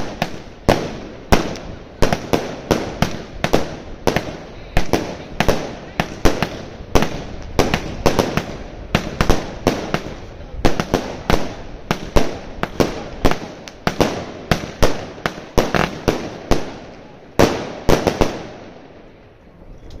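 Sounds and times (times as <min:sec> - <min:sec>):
fireworks cake firing bangs: 0:00.0 - 0:19.1.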